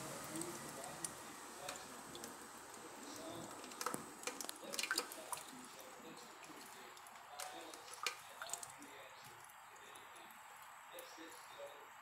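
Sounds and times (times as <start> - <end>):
sharp splashes and taps: 0.0 - 11.1
tap water trickling and dripping: 0.0 - 12.0.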